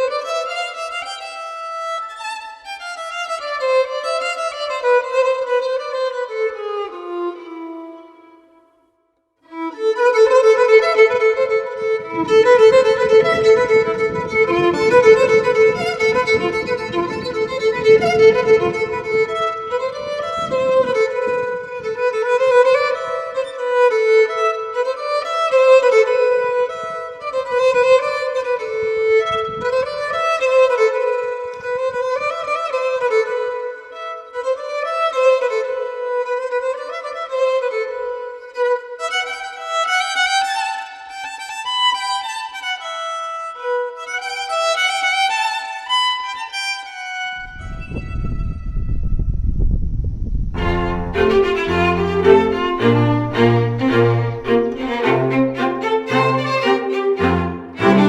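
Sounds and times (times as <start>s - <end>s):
violin playing slow melody: 0.0s - 8.7s, 9.5s - 48.6s, 50.6s - 58.0s.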